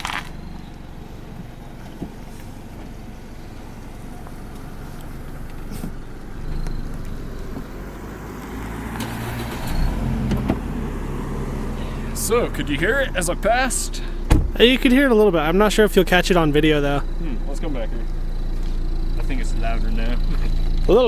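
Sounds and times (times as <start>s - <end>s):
car engine rumble passing: 0.0s - 21.0s.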